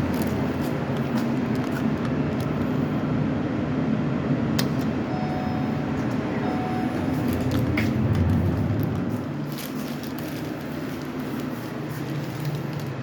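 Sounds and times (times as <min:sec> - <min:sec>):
elevator car rumble: 0:00.0 - 0:13.0.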